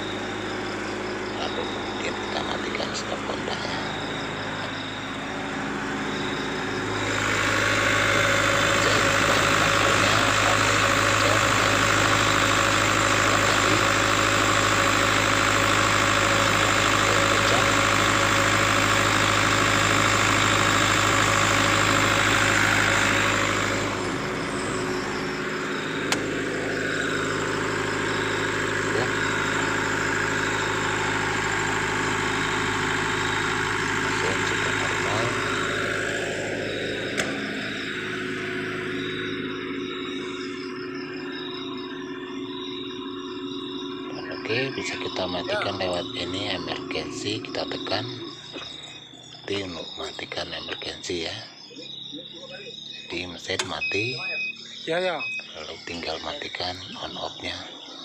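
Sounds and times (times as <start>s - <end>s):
diesel generator running: 0.0s - 58.0s.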